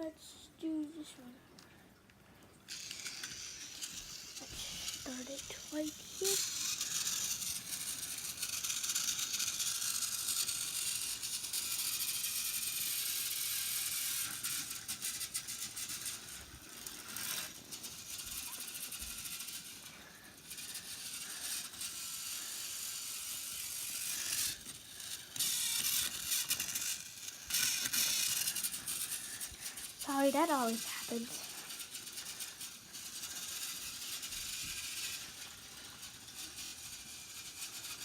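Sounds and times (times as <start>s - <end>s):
toy train motor whirring: 0.0s - 1.4s, 2.6s - 38.0s.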